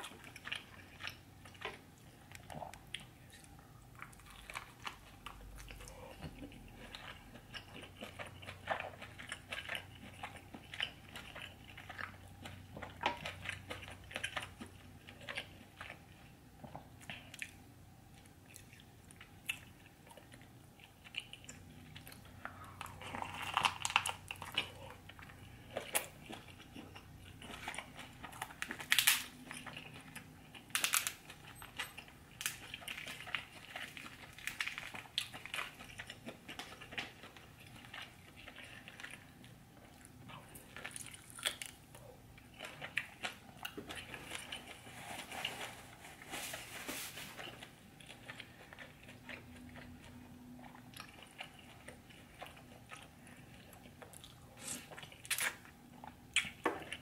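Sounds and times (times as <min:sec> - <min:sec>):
chewing and mouth smacking: 0:00.0 - 0:45.6, 0:47.4 - 0:57.0.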